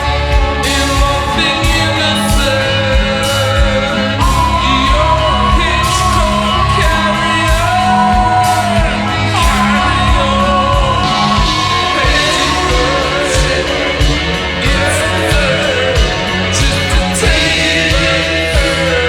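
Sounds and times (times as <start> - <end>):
bass line: 0.0 - 19.0
drum hits: 0.0 - 19.0.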